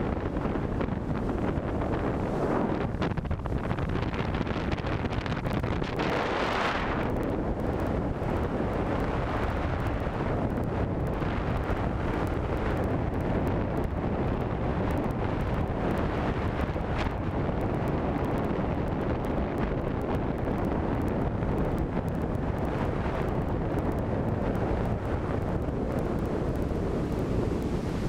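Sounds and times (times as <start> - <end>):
jet ski engine running: 0.0 - 28.0
wind rushing over microphone: 0.0 - 28.0.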